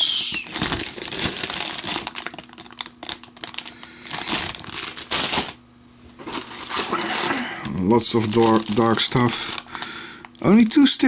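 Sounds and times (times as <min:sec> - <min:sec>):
plastic bags crinkling: 0:00.1 - 0:05.6, 0:06.2 - 0:11.0.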